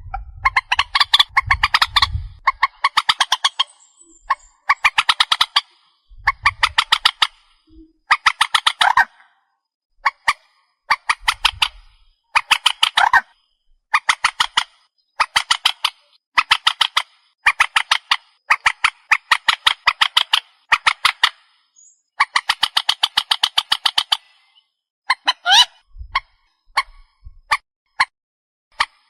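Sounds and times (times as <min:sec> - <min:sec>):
bird calling in harsh bursts: 0:00.5 - 0:09.2, 0:10.0 - 0:26.9.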